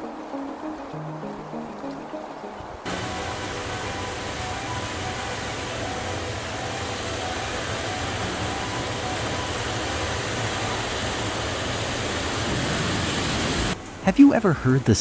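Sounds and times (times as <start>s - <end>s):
flood water roaring: 0.0s - 15.0s.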